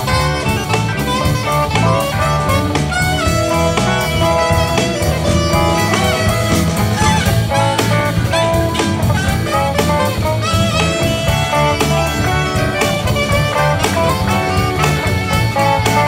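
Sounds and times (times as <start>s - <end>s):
live band playing: 0.0s - 16.0s
saxophone: 0.0s - 16.0s.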